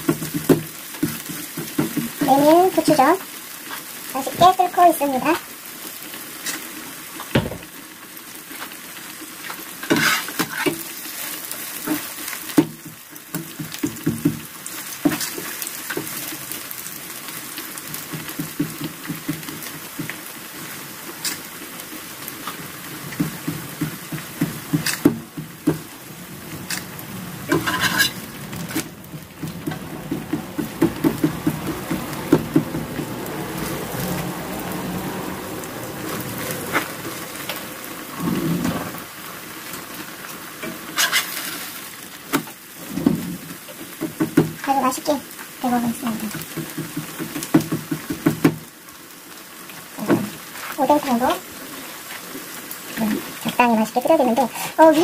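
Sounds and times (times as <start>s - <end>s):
soup boiling: 0.0s - 45.6s
pancake sizzling in oil: 0.0s - 55.0s.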